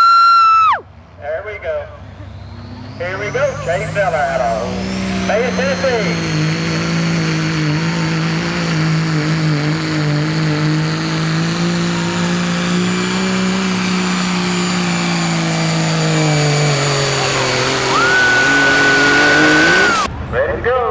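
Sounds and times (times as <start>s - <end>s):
pickup truck engine at full throttle: 0.0s - 20.5s.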